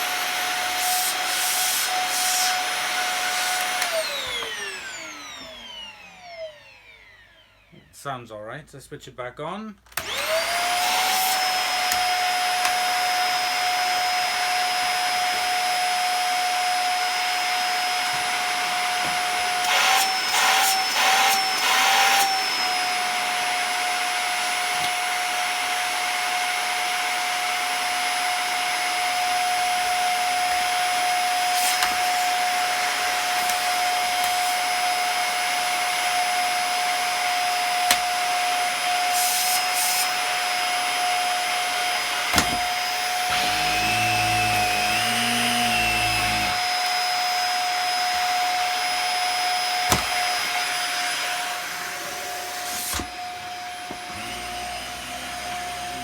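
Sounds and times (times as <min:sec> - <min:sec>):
vacuum cleaner whine: 0:00.0 - 0:08.0, 0:09.9 - 0:56.0.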